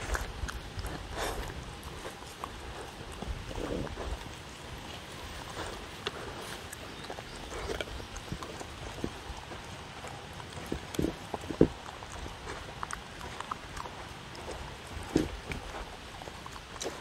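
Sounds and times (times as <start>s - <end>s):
dog chewing and licking: 0.0s - 17.0s.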